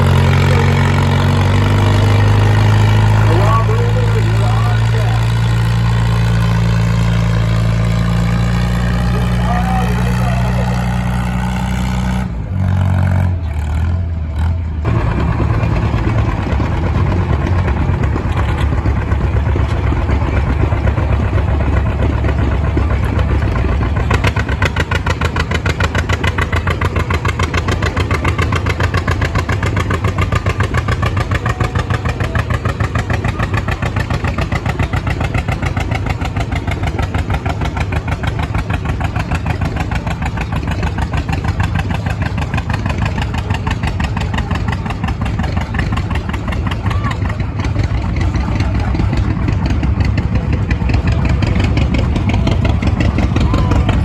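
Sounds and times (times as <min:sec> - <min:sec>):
tractor engine running loudly: 0:00.0 - 0:54.0.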